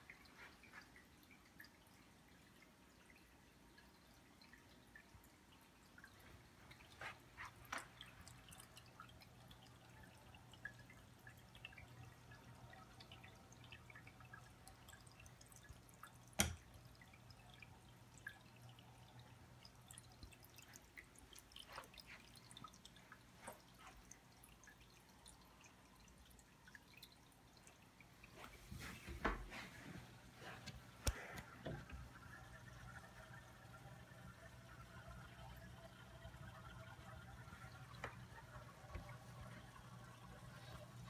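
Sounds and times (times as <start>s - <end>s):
low steady hum: 0.0s - 41.0s
water dripping and trickling: 0.0s - 41.0s.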